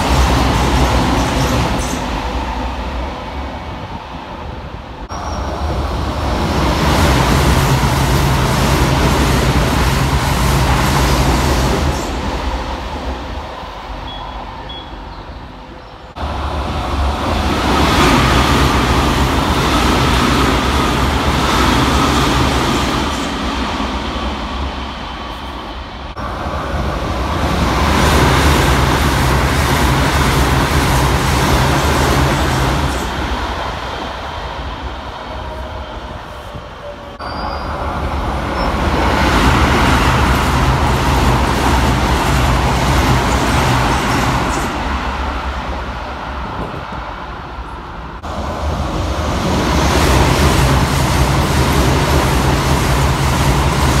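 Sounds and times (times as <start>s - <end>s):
trains rushing past: 0.0s - 54.0s.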